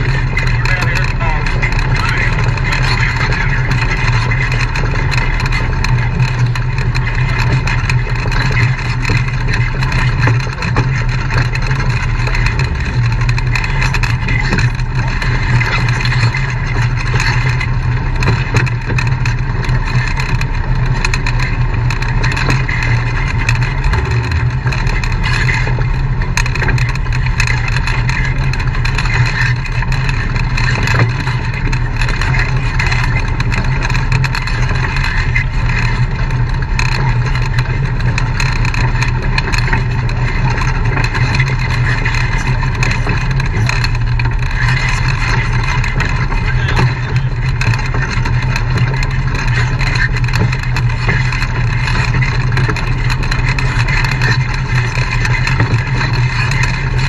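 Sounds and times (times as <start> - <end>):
knocks and rattles over rocks: 0.0 - 57.0
off-road vehicle engine running: 0.0 - 57.0.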